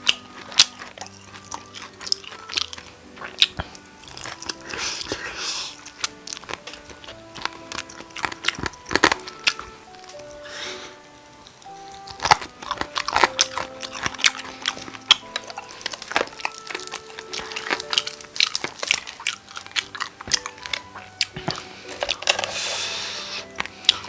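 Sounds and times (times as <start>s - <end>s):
crunching and chewing fried chicken: 0.0s - 24.0s.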